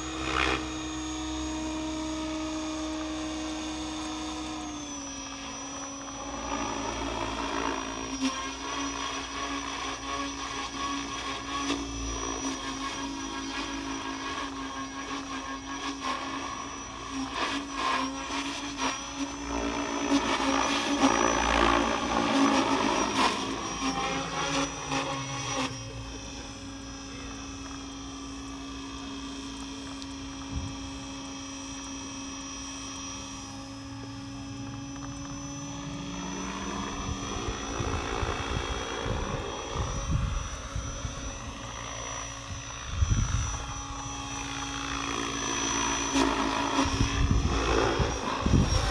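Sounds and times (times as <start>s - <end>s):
rc helicopter hum and whine: 0.0s - 48.9s.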